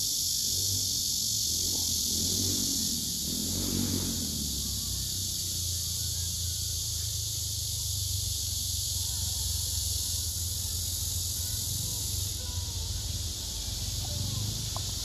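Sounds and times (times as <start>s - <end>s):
cicadas singing: 0.0s - 15.0s.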